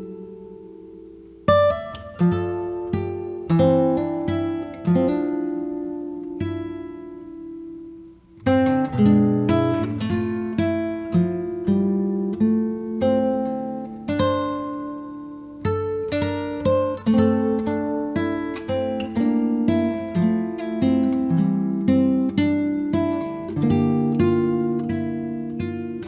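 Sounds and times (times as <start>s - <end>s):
acoustic guitar plucking: 0.0s - 26.0s.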